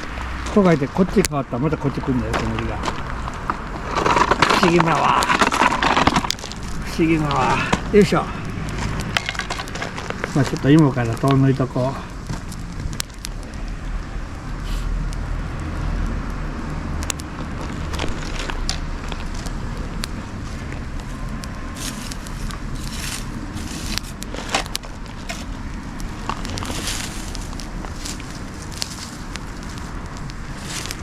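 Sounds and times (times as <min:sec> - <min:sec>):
bonfire crackling and popping: 0:00.0 - 0:31.0
low fire rumble: 0:00.0 - 0:31.0.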